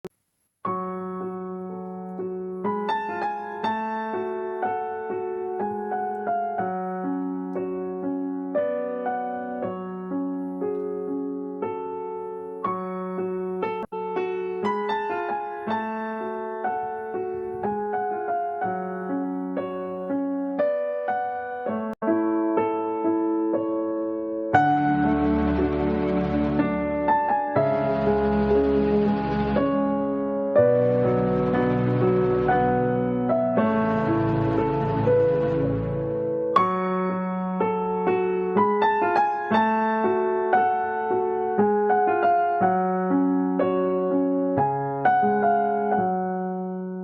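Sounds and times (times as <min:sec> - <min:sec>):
soft piano music: 0:00.6 - 0:47.0.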